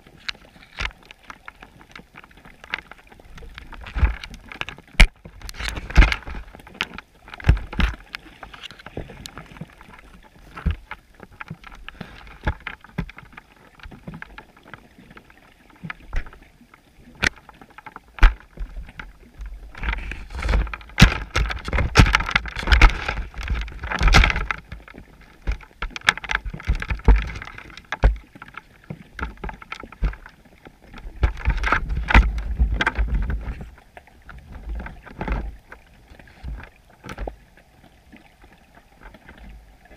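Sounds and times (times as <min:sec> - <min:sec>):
muffled underwater knocks and clicks: 0:00.0 - 0:39.9
water moving noise: 0:00.0 - 0:39.9.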